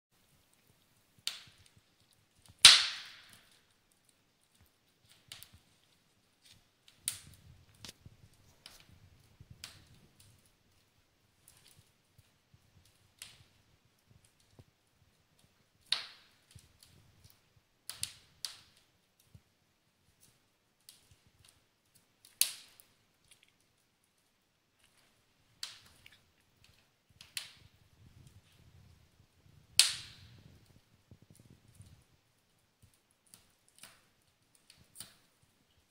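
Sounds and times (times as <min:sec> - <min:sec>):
fire crackling and popping: 0:00.2 - 0:35.9.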